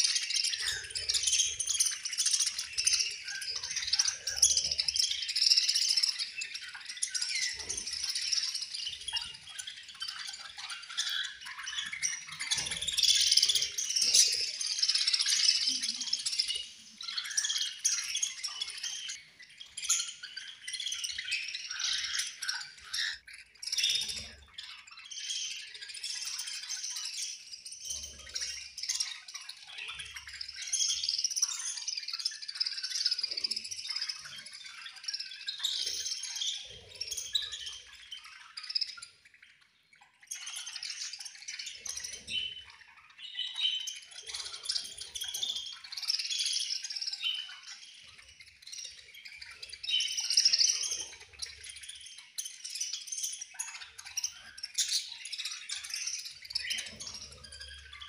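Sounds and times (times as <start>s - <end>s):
budgerigars chirping: 0.0s - 58.0s.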